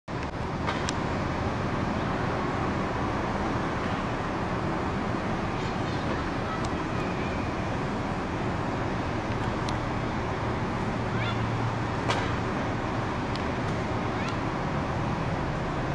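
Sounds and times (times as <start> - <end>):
road traffic noise: 0.1 - 15.9.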